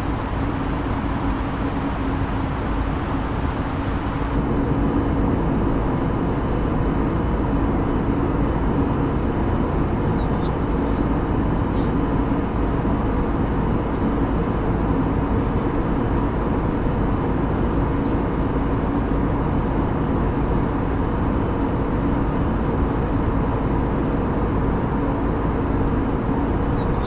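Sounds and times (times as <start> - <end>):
airliner cabin air rush: 0.0 - 27.0
engine hum: 0.0 - 27.0.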